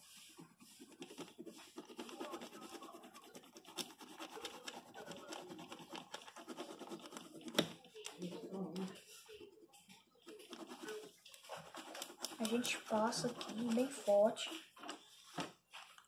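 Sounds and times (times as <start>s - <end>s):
pencil scratching on paper: 0.0s - 14.7s.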